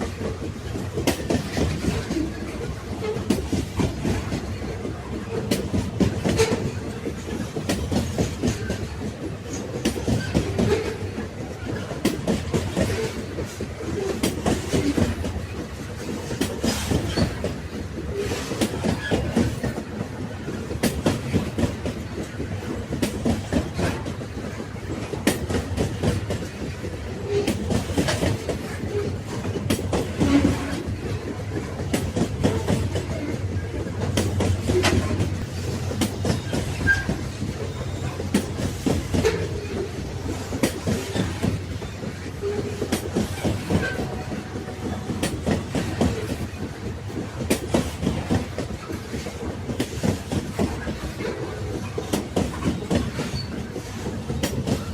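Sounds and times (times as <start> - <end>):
train cars rumbling on rails: 0.0 - 54.9
wheels clacking over rail joints: 0.0 - 54.9.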